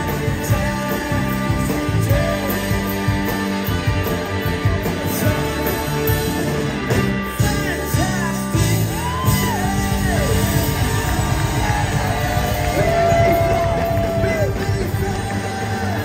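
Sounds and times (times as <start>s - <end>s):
live pop-rock band: 0.0s - 16.0s
man singing: 0.0s - 16.0s.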